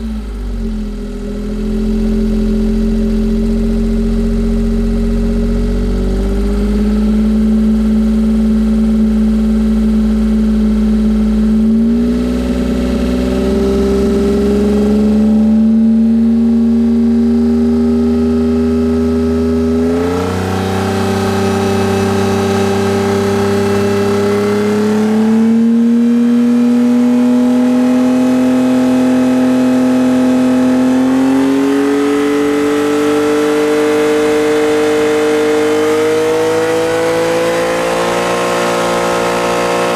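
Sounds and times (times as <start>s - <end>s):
car exhaust revving in steps: 0.0s - 39.9s.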